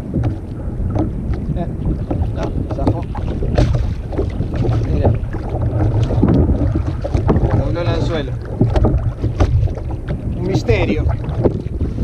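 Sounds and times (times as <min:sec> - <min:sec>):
knocks and splashes: 0:00.0 - 0:12.0
water slapping kayak hull: 0:00.0 - 0:12.0
wind buffeting microphone: 0:00.0 - 0:12.0.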